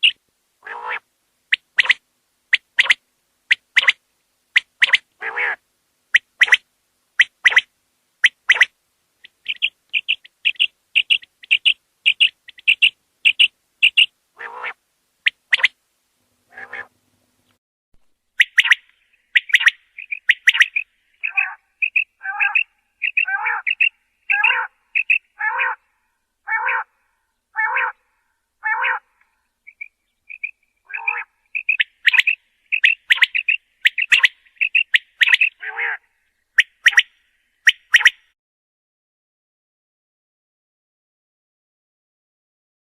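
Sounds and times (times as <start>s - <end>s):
quail calling: 0.0s - 6.6s, 7.2s - 15.8s, 16.5s - 17.0s, 18.4s - 27.0s, 27.6s - 28.0s, 28.6s - 38.2s.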